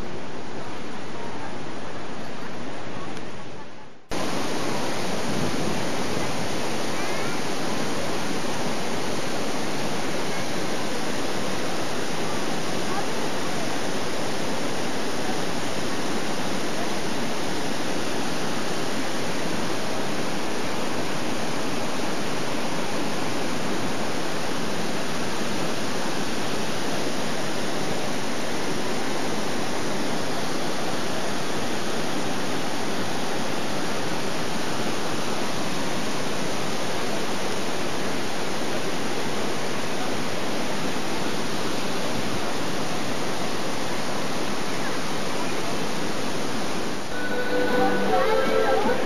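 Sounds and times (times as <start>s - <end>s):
waterfall rushing: 4.1s - 49.0s.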